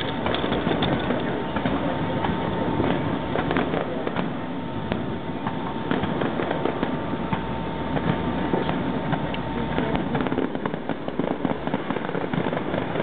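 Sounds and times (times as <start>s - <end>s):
distant fireworks bursting: 0.0s - 13.0s.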